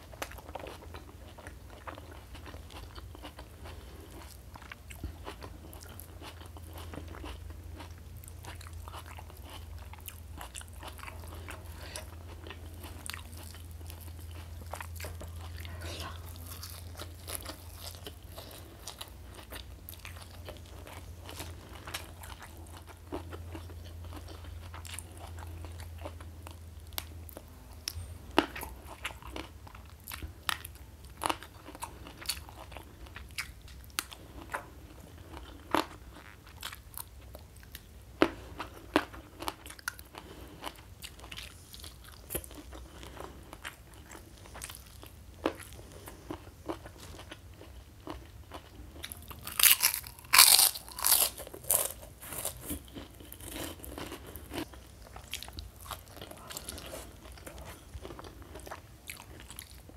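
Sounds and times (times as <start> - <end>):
low steady hum: 0.0 - 59.9
wet chewing with crunchy bites: 0.0 - 59.9.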